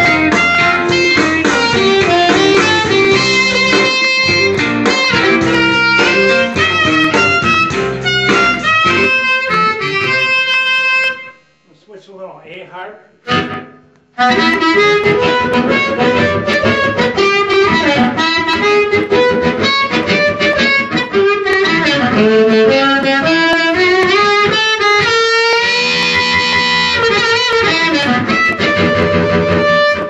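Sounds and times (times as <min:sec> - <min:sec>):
amplified blues harmonica: 0:00.0 - 0:11.6, 0:13.2 - 0:30.0
backing track with guitar: 0:00.0 - 0:11.6, 0:13.2 - 0:30.0.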